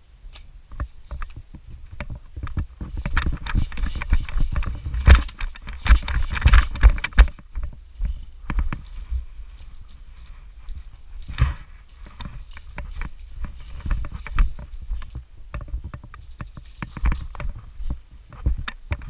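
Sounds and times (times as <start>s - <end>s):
rustling: 0.0s - 19.0s
knocks and thumps of gear: 0.3s - 19.0s.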